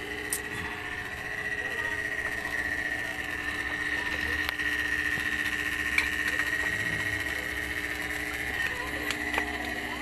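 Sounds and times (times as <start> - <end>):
refrigerator compressor running: 0.0 - 10.0.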